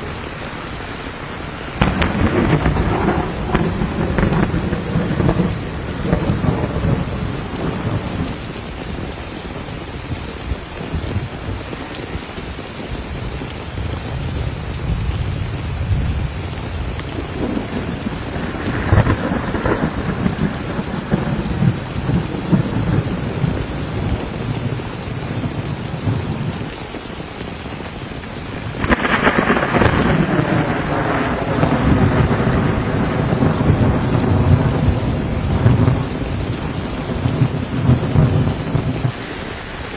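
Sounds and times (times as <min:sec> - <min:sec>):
heavy rain falling: 0:00.0 - 0:39.9
rumbling thunder: 0:01.6 - 0:12.0, 0:13.1 - 0:26.9, 0:28.4 - 0:39.9.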